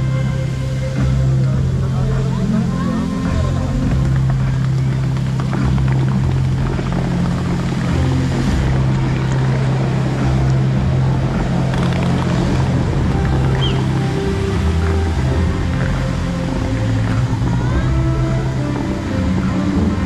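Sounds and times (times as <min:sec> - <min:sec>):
loudspeaker music low note: 0:00.0 - 0:20.0
water jets rushing hiss: 0:00.0 - 0:20.0.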